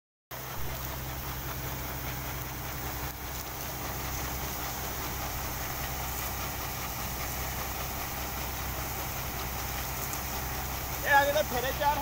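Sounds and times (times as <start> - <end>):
harvester engine drone: 0.3 - 12.0
grain pouring hiss: 0.4 - 12.0.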